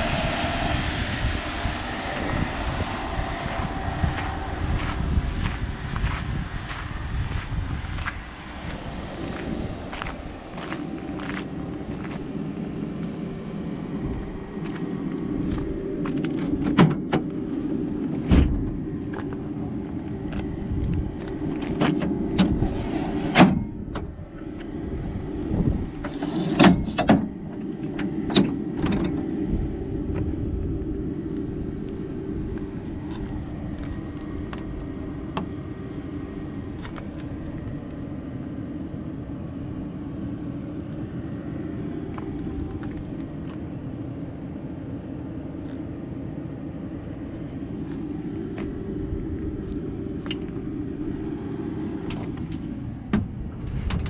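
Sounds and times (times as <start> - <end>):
steady vehicle hum: 0.0 - 54.0.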